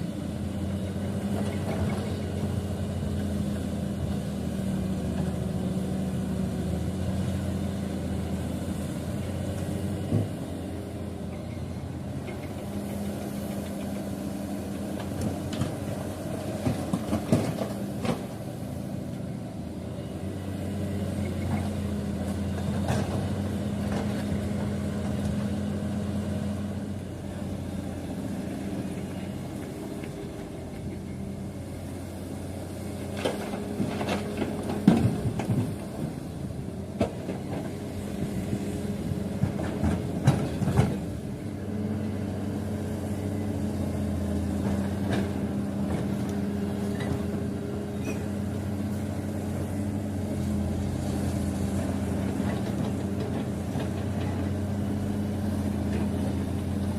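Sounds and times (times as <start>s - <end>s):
heavy machine engine idling: 0.0s - 56.9s.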